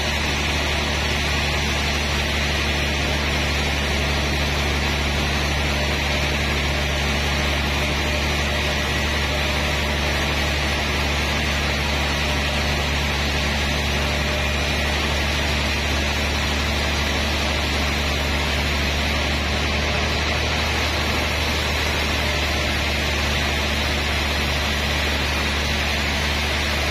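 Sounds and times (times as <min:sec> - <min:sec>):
band saw cutting log: 0:00.0 - 0:26.9.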